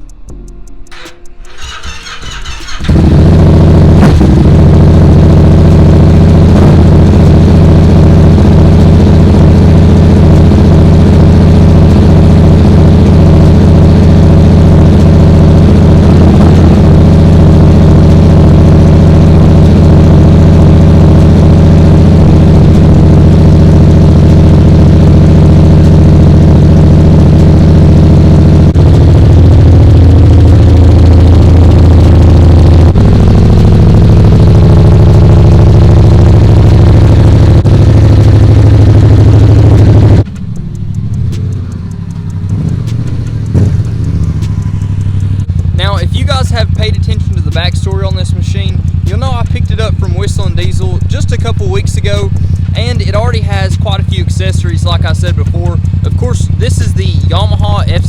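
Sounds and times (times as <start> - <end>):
motorcycle engine idling: 0.3 - 58.0.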